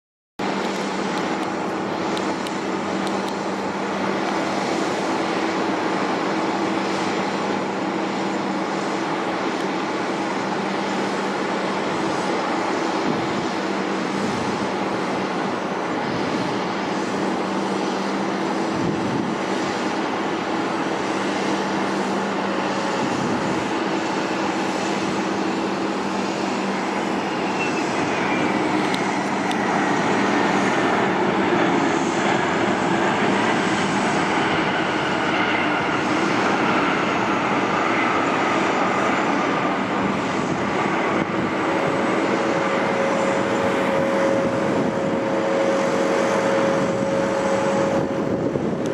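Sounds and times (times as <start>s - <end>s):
jet engine whine falling in pitch: 0.4s - 48.9s
jet engines running loud: 0.4s - 48.9s.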